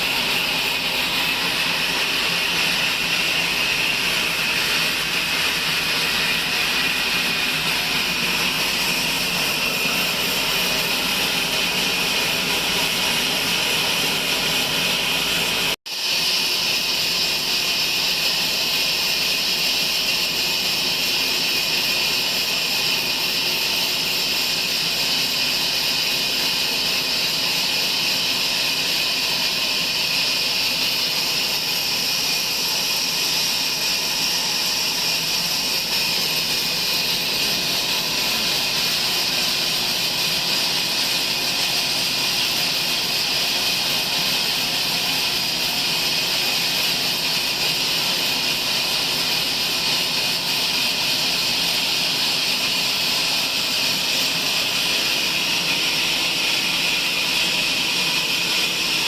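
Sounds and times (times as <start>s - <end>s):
bandsaw cutting log: 0.0s - 15.8s, 16.6s - 59.0s.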